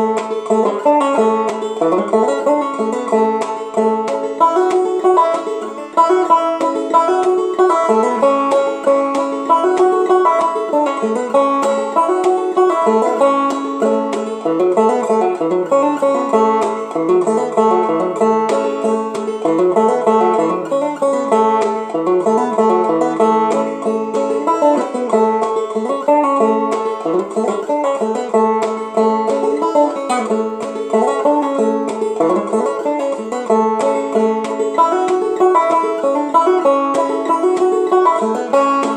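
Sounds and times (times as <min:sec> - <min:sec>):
banjo plucked notes: 0:00.0 - 0:38.9.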